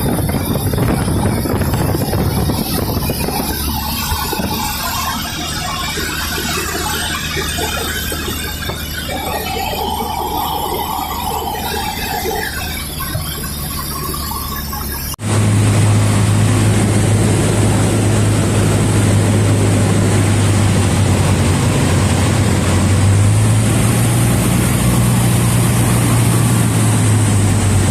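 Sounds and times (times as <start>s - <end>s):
light aircraft engine and propeller: 0.0s - 27.9s.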